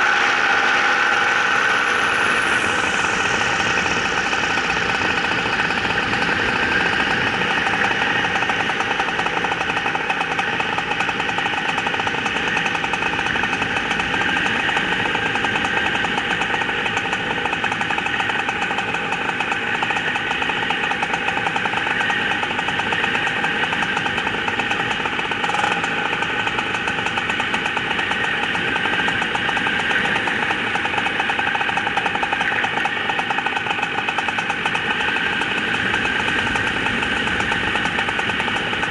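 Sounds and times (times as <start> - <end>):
small two-stroke engine running: 0.0 - 38.9.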